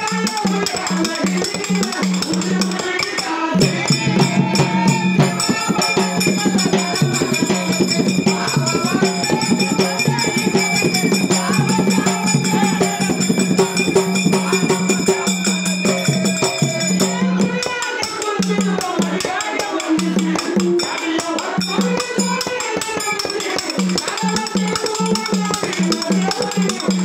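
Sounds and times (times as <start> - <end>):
hand drum beat: 0.0 - 27.0
jingling percussion: 0.0 - 27.0
men singing: 0.0 - 27.0.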